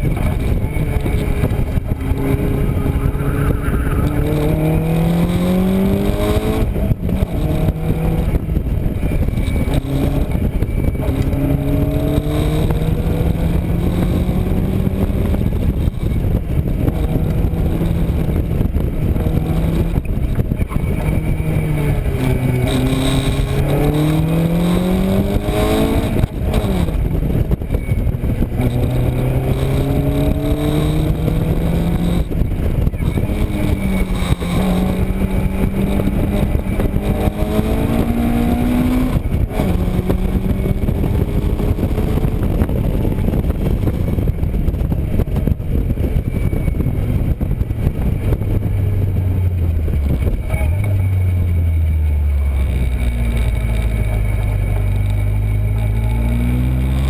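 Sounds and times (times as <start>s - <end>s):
wind rushing: 0.0s - 50.5s
car engine revving: 0.0s - 57.0s.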